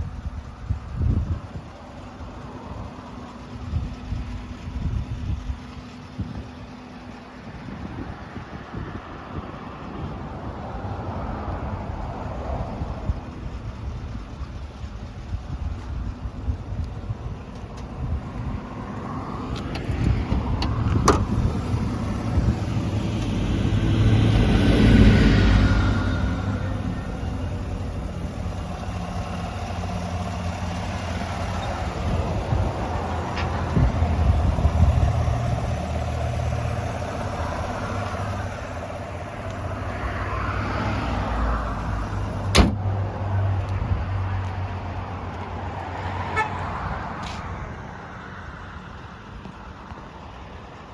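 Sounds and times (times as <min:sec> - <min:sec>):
pickup engine low rumble: 0:00.0 - 0:50.9.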